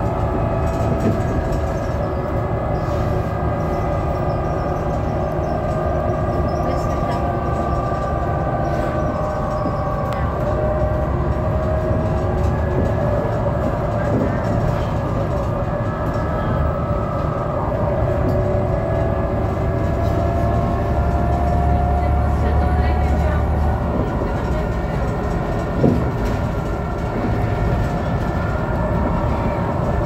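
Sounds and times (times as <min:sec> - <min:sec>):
bus drivetrain and road rumble: 0:00.0 - 0:30.0.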